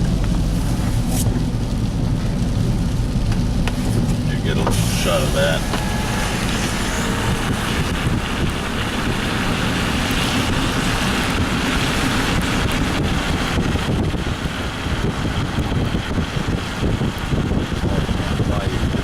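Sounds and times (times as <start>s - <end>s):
water rushing and tyre noise: 0.0s - 19.0s
wind buffeting microphone: 0.0s - 19.0s.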